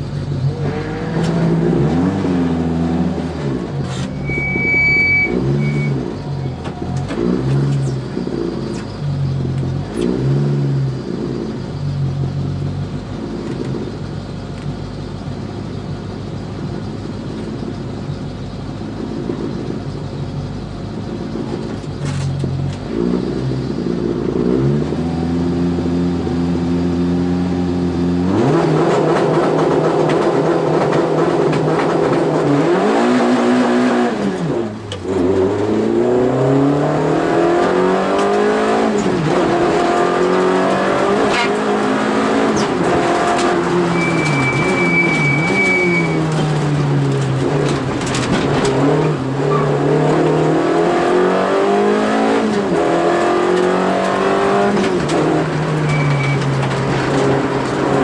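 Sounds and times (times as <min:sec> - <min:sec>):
rally car engine revving: 0:00.0 - 0:14.7, 0:20.8 - 0:58.0.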